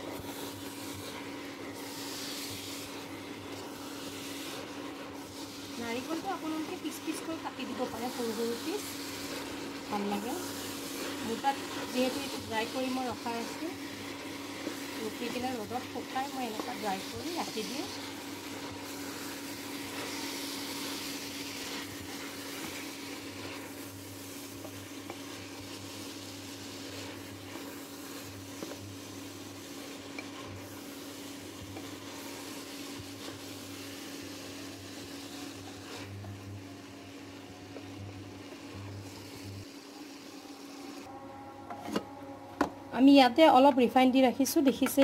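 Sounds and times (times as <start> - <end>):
food sizzling in oil: 0.0 - 41.1.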